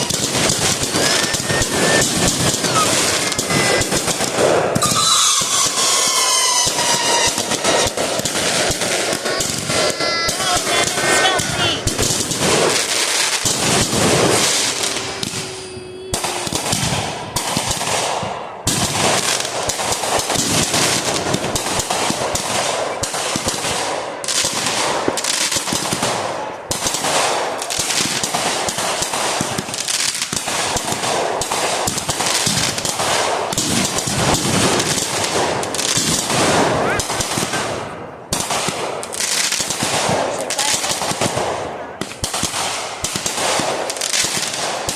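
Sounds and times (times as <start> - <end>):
fireworks crackling bangs: 0.0 - 44.9.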